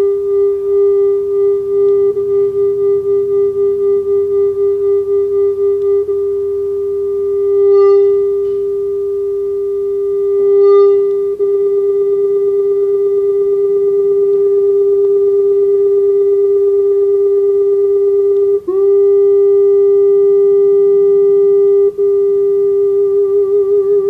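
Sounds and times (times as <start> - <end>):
electronic test tone: 0.0 - 24.0.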